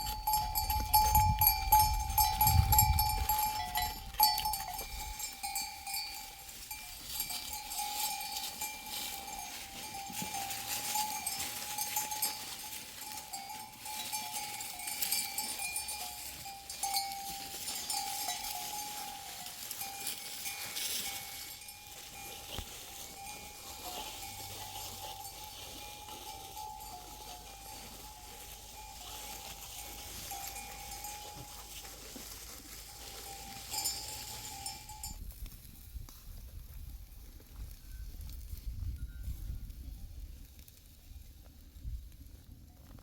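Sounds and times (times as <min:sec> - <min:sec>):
livestock bells clinking: 0:00.0 - 0:35.3.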